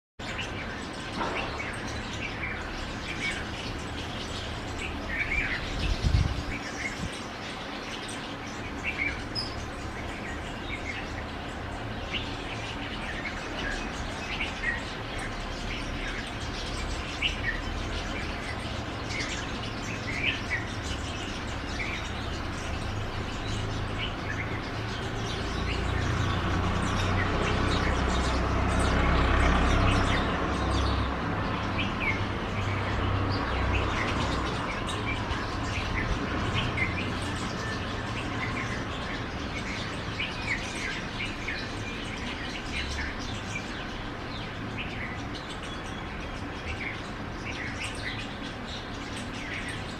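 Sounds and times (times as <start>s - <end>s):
birds chirping: 0.2s - 49.9s.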